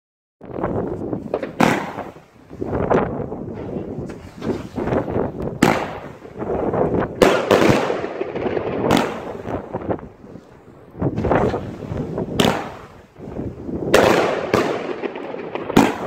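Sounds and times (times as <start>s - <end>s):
fireworks popping and banging: 0.5s - 16.0s.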